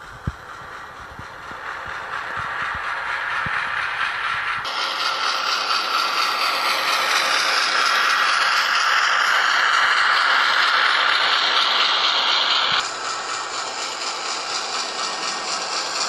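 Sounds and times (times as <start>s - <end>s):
model train diesel engine sound: 0.0s - 16.0s.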